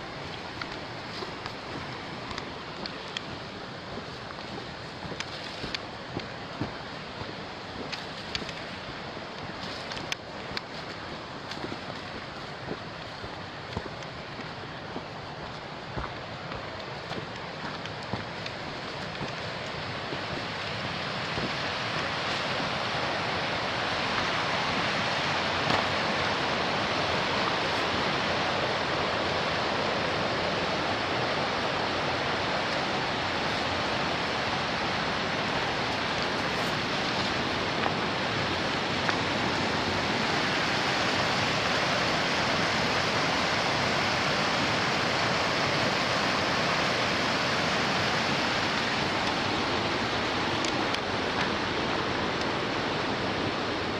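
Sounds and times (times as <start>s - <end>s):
river rapids rushing over boulders: 0.0s - 53.9s.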